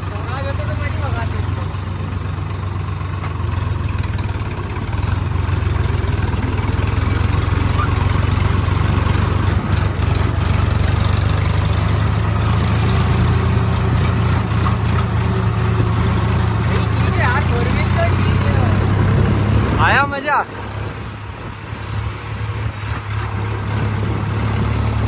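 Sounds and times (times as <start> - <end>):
tractor diesel engine rumble: 0.0 - 25.0.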